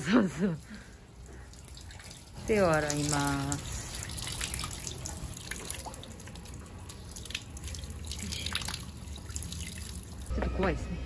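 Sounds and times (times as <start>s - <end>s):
water pouring into stone basin: 0.1s - 10.3s.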